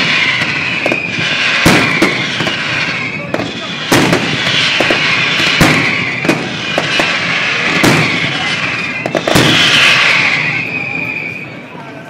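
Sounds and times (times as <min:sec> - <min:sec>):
fireworks pops: 0:00.0 - 0:11.9
fireworks bangs: 0:00.0 - 0:12.0.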